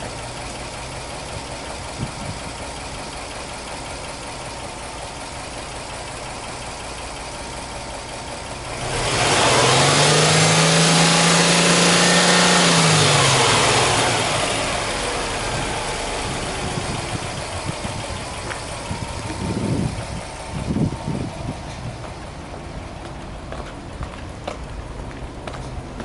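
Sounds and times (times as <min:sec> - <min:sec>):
car engine revving then idling: 0:00.0 - 0:23.0.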